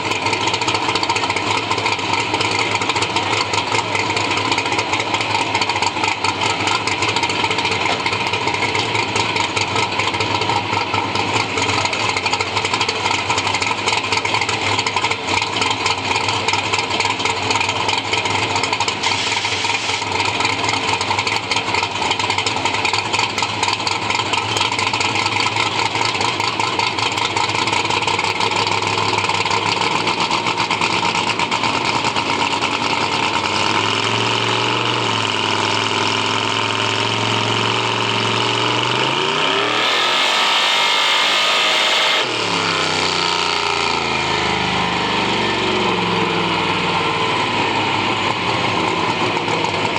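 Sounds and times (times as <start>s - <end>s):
car engine idling roughly: 0.0s - 49.9s.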